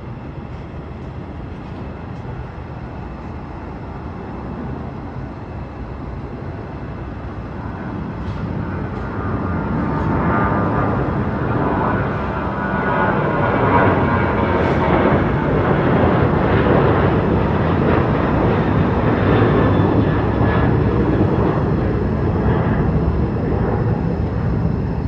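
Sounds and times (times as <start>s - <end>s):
jet airliner taking off: 0.1s - 25.0s.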